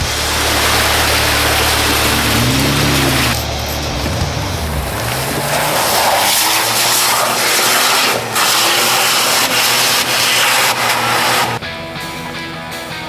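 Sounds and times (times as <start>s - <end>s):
loud steady rushing noise: 0.0s - 11.6s
engine revving under load: 0.0s - 12.0s.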